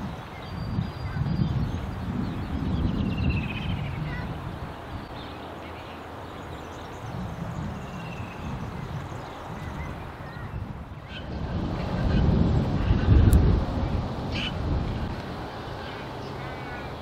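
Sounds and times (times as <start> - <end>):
birds chirping faintly: 0.0 - 17.0
wind buffeting microphone: 0.0 - 17.0.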